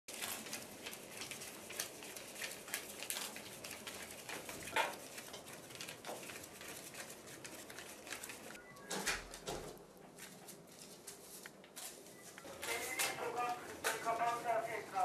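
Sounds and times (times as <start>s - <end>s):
banknotes flicking and rustling: 0.1s - 15.0s.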